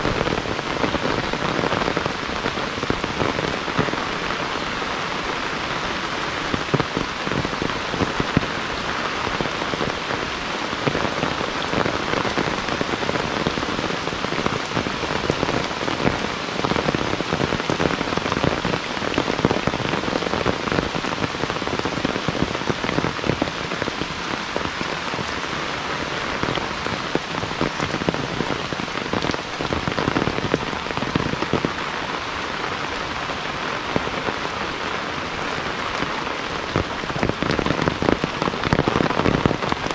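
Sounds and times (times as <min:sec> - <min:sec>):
heavy rain falling: 0:00.0 - 0:39.9
raindrops pattering: 0:00.0 - 0:39.9.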